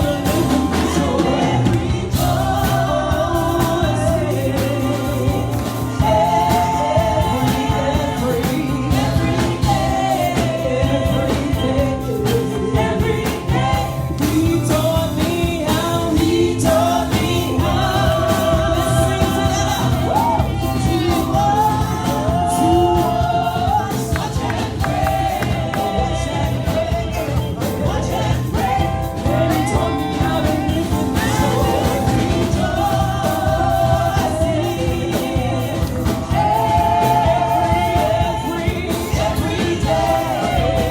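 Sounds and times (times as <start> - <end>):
live band accompaniment: 0.0 - 40.9
low bass line: 0.0 - 40.9
voices singing gospel: 0.0 - 40.9.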